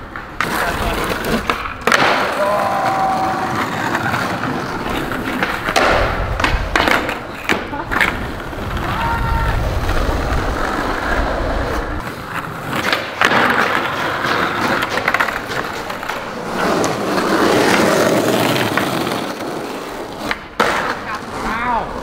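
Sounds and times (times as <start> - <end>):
skateboard clack: 0.0 - 22.0
skateboard wheels rolling on asphalt: 0.0 - 22.0.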